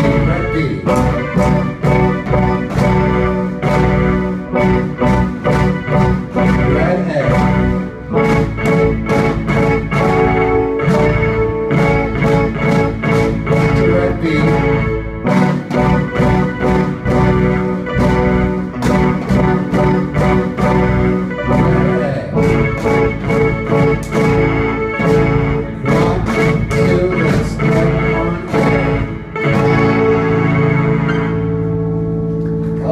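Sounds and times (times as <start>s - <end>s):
drum kit beat: 0.0s - 31.2s
electric guitar: 0.0s - 32.9s
organ-sounding keyboard: 0.0s - 32.9s.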